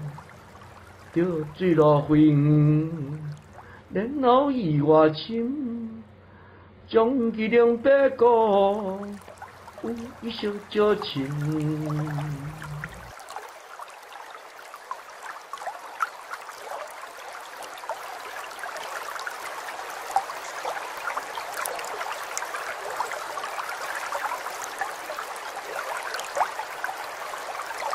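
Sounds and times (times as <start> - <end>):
water trickling and babbling: 0.0 - 5.9, 7.4 - 27.9.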